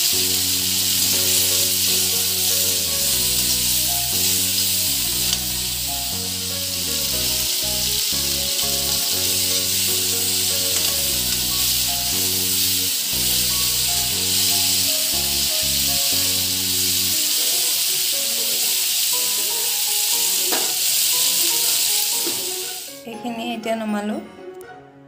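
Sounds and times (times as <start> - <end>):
food sizzling in hot oil: 0.0 - 23.0
background music: 0.0 - 25.0.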